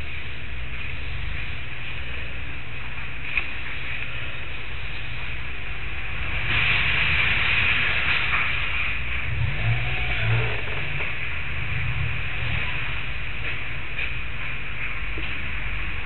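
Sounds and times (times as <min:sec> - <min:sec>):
engine rumbling: 0:00.0 - 0:16.0
hissing noise: 0:00.0 - 0:16.0.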